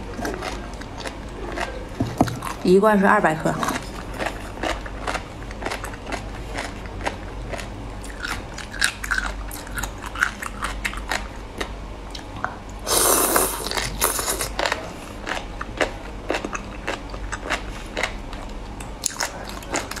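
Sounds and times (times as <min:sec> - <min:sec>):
wet chewing: 0:00.0 - 0:02.7, 0:03.5 - 0:12.3, 0:13.0 - 0:20.0.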